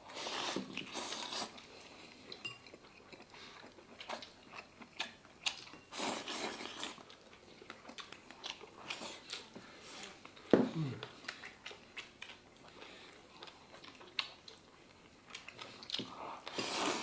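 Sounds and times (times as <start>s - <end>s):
people chewing and eating: 0.0s - 17.0s.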